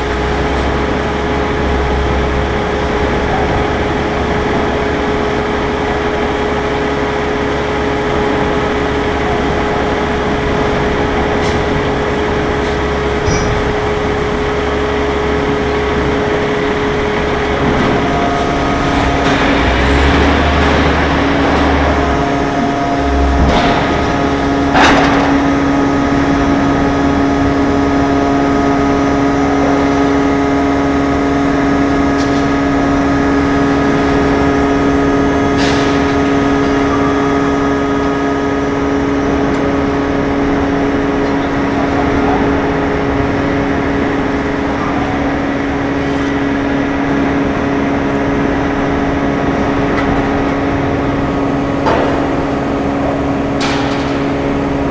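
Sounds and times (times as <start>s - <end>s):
forming press machine hum: 0.0s - 54.9s.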